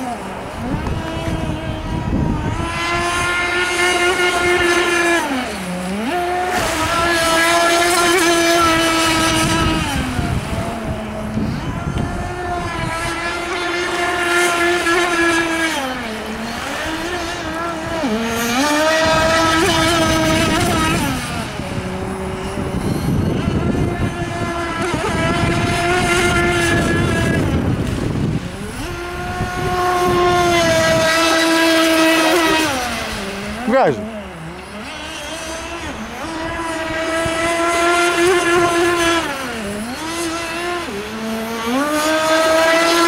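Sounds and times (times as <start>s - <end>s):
model boat engine whining: 0.0s - 43.0s.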